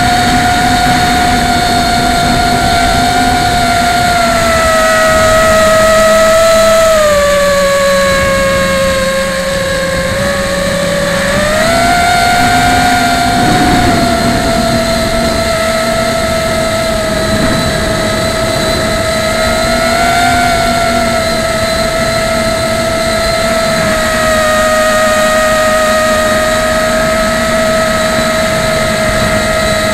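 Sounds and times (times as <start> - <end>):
quadcopter propellers whining: 0.0 - 29.9.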